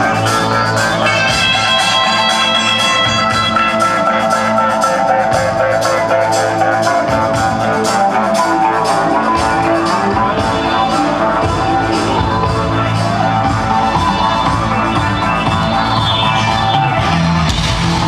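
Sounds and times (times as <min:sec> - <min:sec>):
distorted electric guitars: 0:00.0 - 0:18.0
rock drum beat: 0:00.0 - 0:18.0.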